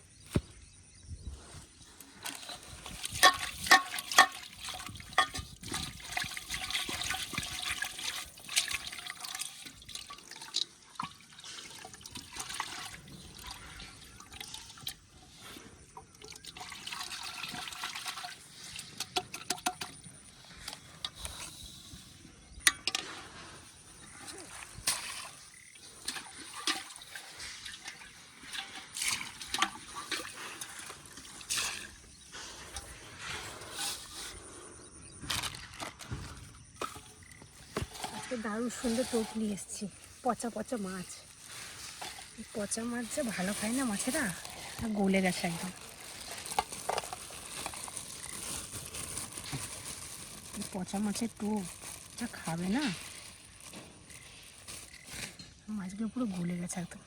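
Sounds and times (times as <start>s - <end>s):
water splashing and sloshing: 1.4s - 57.0s.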